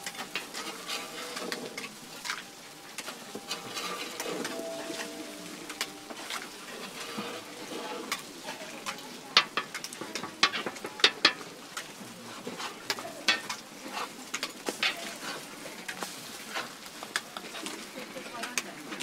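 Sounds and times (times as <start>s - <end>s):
food sizzling on a griddle: 0.0s - 19.0s
metal utensils clicking and scraping: 0.0s - 19.0s.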